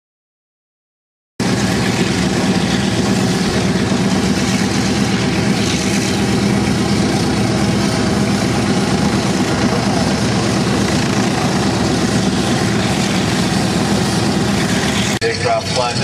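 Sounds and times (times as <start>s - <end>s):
radial piston engine running: 1.4s - 16.0s.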